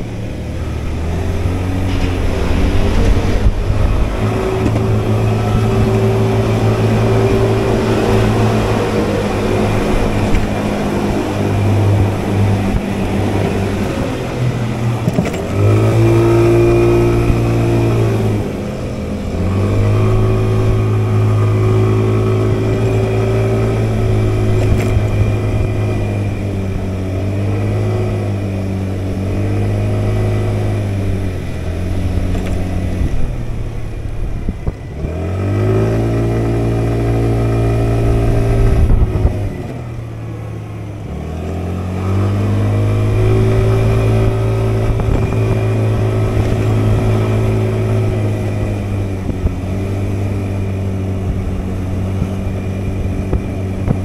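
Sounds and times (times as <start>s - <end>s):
motor scooter engine running: 0.0s - 54.0s.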